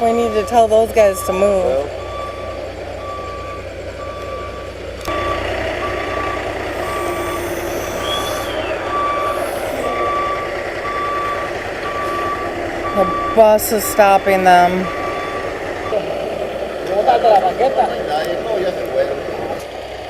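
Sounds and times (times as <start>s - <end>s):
truck reversing alarm beeping: 0.0s - 19.5s
truck engine running: 0.0s - 20.0s.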